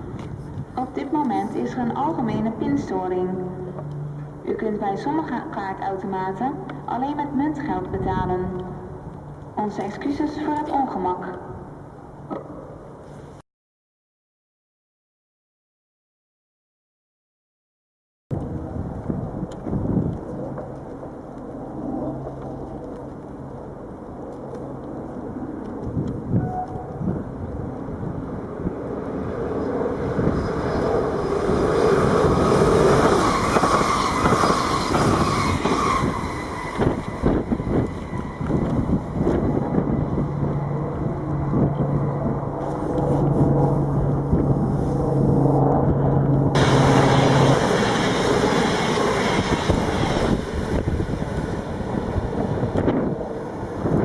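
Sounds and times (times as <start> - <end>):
train passing with whine: 0.0 - 13.4, 18.4 - 54.0.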